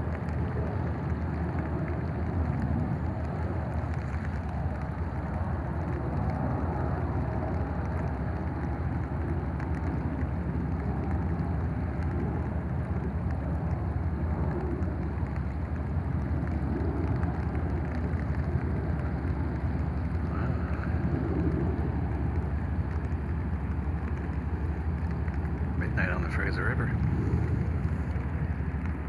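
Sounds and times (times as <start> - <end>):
low rumble: 0.0 - 29.0
steady rain falling: 0.0 - 29.0.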